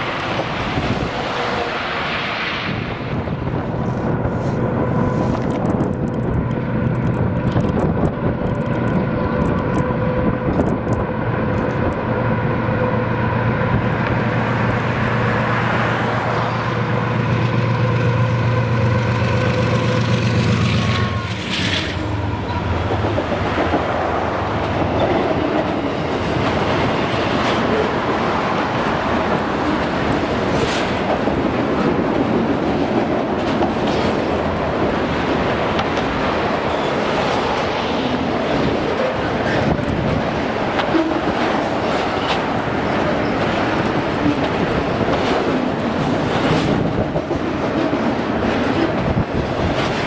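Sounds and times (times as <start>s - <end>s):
diesel locomotive engine hum: 0.0s - 50.0s
wheels rumbling on rail: 0.0s - 50.0s.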